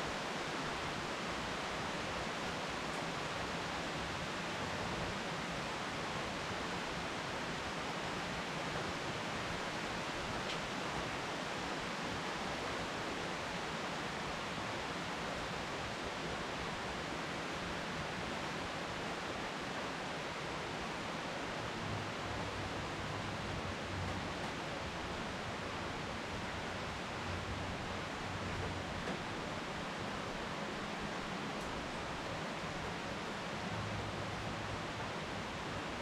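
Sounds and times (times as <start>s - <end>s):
rain on leafy trees: 0.0s - 36.0s.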